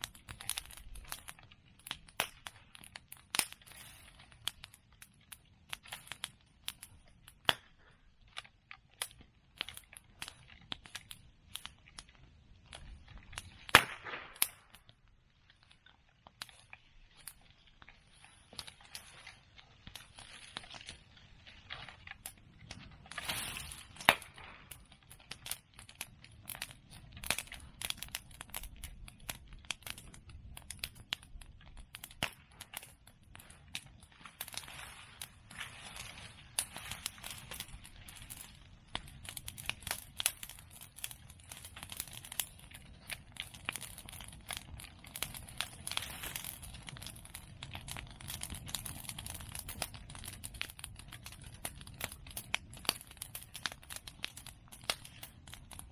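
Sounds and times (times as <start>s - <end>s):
bonfire crackling: 0.0s - 55.9s.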